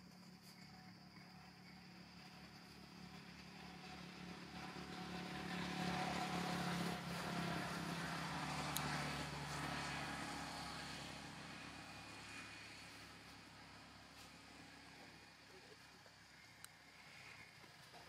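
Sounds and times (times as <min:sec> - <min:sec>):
vehicle engine passing by: 0:01.7 - 0:17.6.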